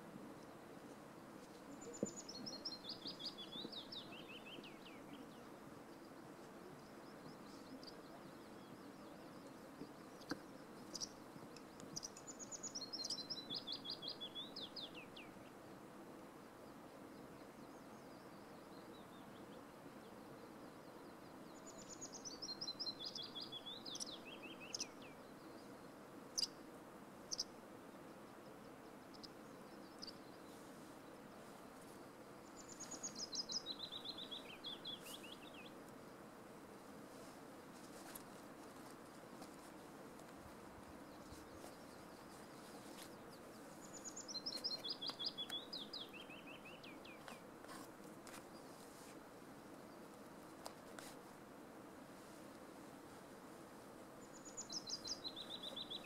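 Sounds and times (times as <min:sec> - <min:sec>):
songbird singing: 0:00.0 - 0:36.4, 0:39.1 - 0:49.0, 0:54.0 - 0:56.0
faint steady hiss: 0:00.0 - 0:56.0.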